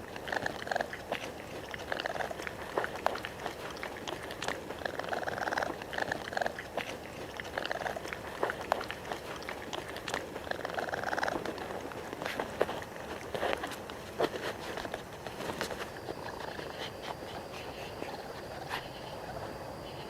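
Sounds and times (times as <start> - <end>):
raccoon purring trills: 0.0 - 20.0.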